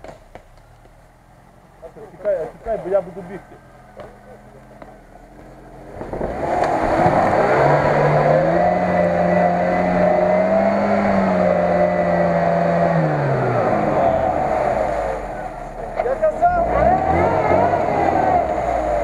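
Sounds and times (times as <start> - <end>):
engine revving under load: 1.8 - 19.0.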